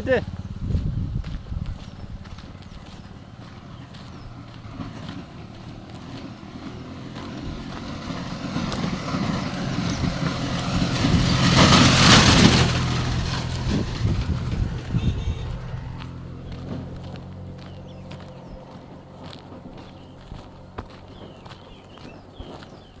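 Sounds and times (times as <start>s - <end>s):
motor vehicle passing by: 0.0s - 23.0s.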